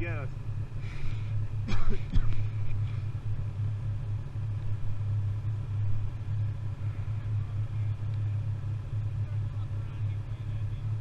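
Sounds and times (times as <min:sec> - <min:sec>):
snowmobile engines idling: 0:00.0 - 0:11.0.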